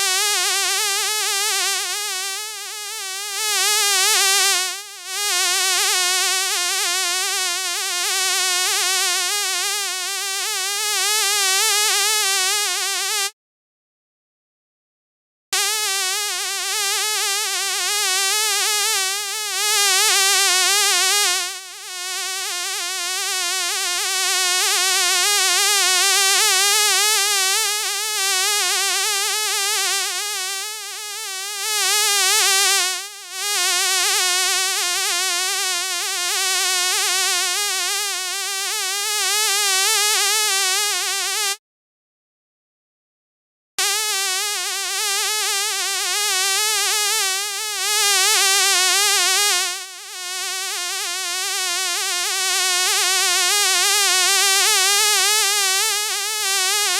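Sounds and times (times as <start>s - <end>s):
fly buzzing: 0.0s - 13.3s, 15.6s - 41.6s, 43.8s - 56.9s.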